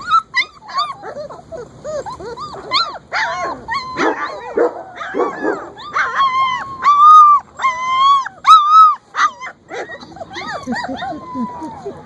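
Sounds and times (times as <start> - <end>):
puppies whining and yelping: 0.0 - 12.0.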